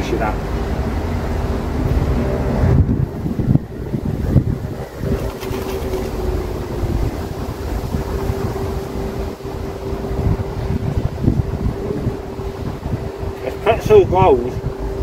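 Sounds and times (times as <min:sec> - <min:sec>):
steady mechanical hum: 0:00.0 - 0:15.0
wind buffeting microphone: 0:00.0 - 0:15.0.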